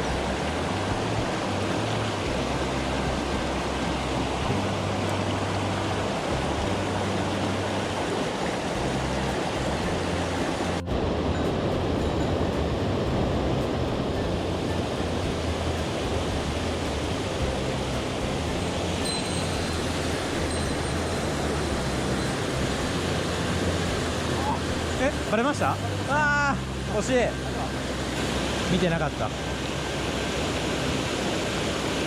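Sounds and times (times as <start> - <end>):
mountain stream rushing: 0.0 - 32.0.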